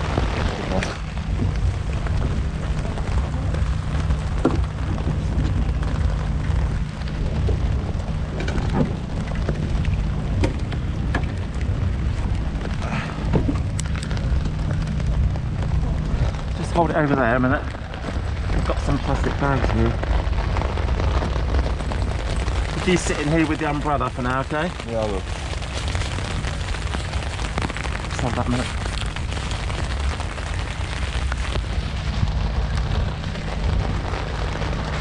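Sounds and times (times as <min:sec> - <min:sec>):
low rumble: 0:00.0 - 0:35.0
rain falling: 0:00.0 - 0:35.0.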